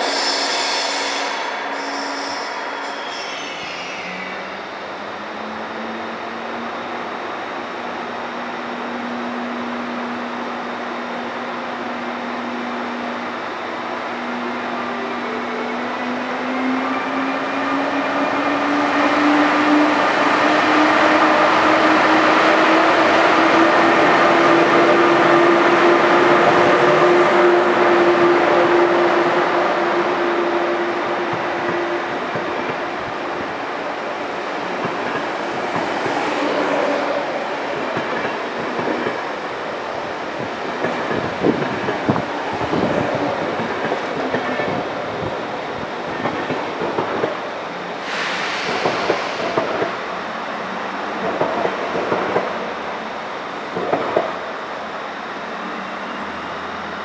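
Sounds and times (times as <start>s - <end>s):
rising train whine: 0.0s - 57.0s
train moving: 0.0s - 57.0s.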